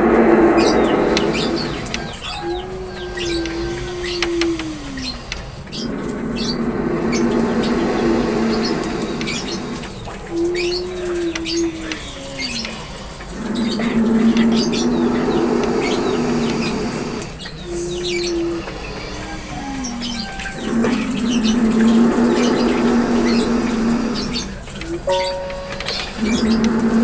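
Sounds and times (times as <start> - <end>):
snake hissing: 0.0 - 25.2.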